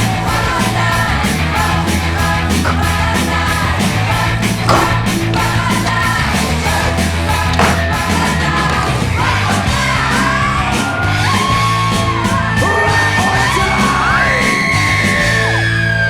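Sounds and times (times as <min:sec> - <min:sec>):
bass guitar: 0:00.0 - 0:16.0
drums: 0:00.0 - 0:16.0.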